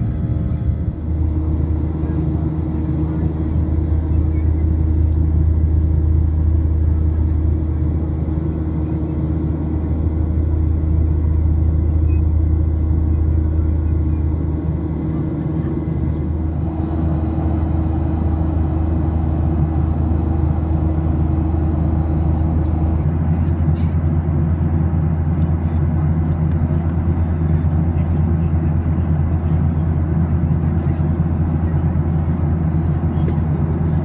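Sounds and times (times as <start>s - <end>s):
aircraft cabin engine rumble: 0.0s - 34.0s.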